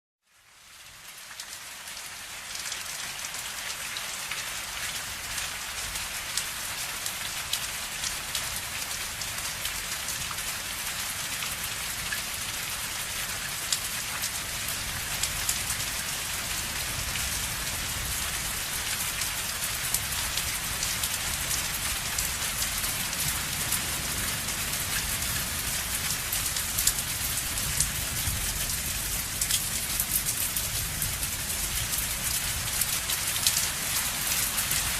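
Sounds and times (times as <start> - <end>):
steady rain hiss: 0.2 - 34.9
raindrops ticking on surface: 0.3 - 34.9.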